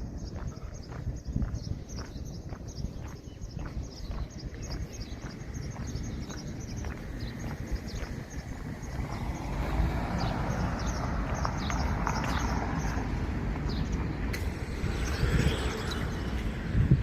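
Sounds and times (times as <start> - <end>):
high chirps and ticks: 0.0 - 14.4
steady low rumble: 0.0 - 17.0.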